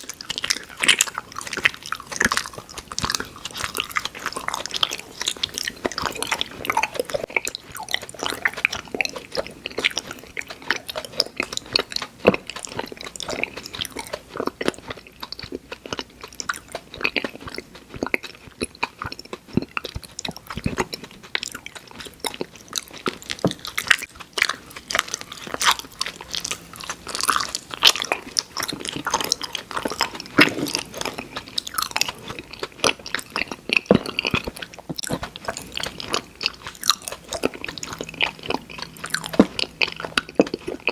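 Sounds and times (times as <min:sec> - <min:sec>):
chewing and crunching candy: 0:00.0 - 0:40.9.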